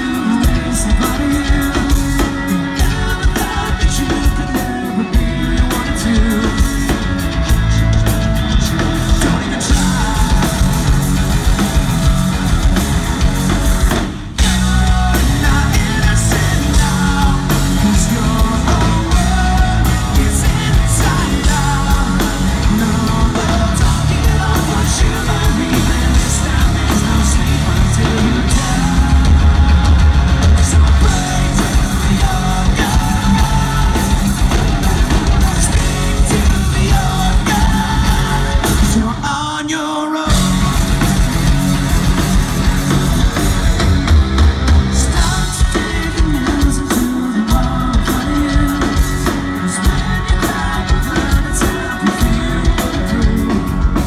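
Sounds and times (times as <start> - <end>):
person singing: 0.0 - 12.8, 13.9 - 42.2, 44.8 - 54.0
electric bass: 0.0 - 39.6, 40.3 - 54.0
distorted electric guitar: 0.0 - 54.0
drum kit: 0.0 - 54.0.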